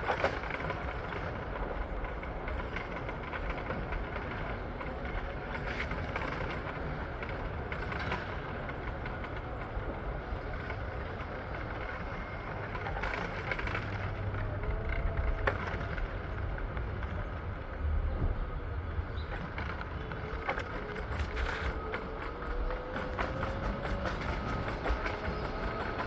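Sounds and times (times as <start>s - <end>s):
vehicle rumbling ride noise: 0.0s - 26.0s.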